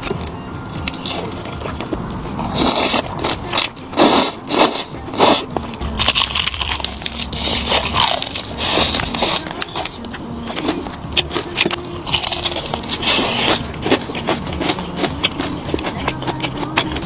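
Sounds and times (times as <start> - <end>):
food crunching and crackling: 0.0 - 17.0
person biting and chewing: 0.0 - 17.0.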